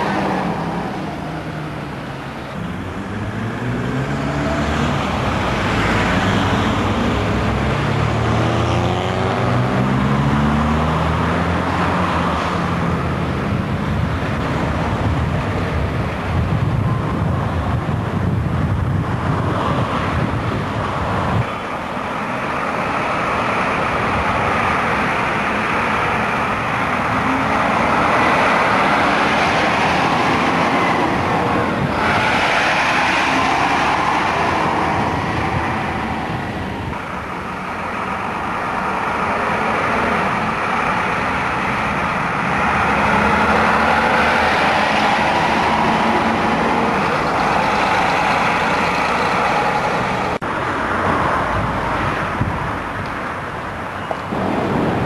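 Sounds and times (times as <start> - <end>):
bus diesel engines running: 0.0 - 55.0
road traffic: 0.0 - 55.0.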